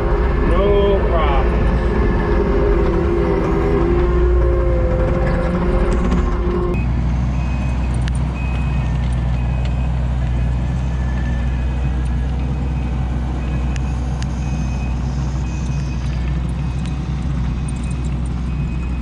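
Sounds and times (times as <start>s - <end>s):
diesel engine under load: 0.0s - 19.0s
hydraulic whine: 0.0s - 19.0s
reversing alarm beeping: 1.7s - 19.0s.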